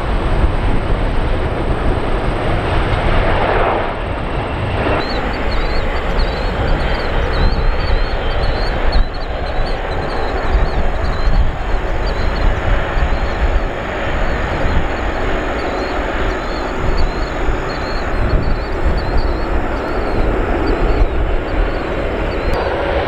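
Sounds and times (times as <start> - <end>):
jet engines rushing: 0.0 - 23.0
low fluttering rumble: 0.0 - 23.0.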